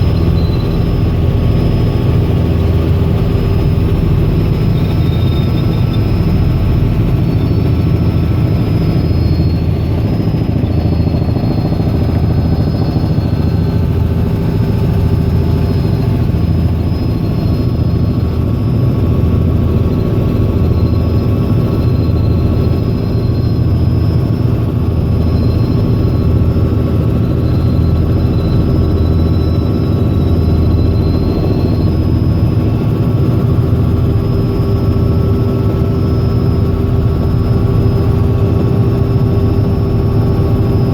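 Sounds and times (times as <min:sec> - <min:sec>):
faint high whine: 0:00.0 - 0:40.9
helicopter turbine and rotor drone: 0:00.0 - 0:40.9.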